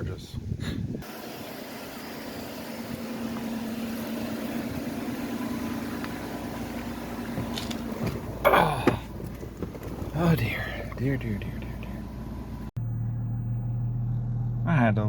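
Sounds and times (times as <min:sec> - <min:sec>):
road noise: 0:00.8 - 0:15.0
van engine running: 0:00.8 - 0:15.0.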